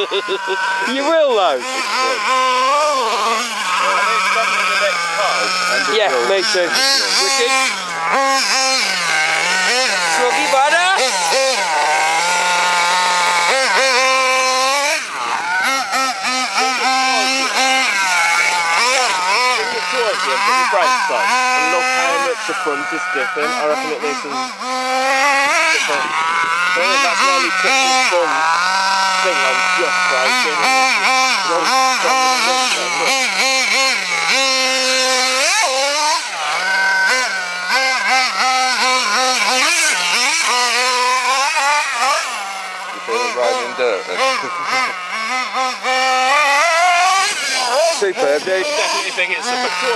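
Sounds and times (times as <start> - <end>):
small nitro engine revving: 0.0 - 49.9.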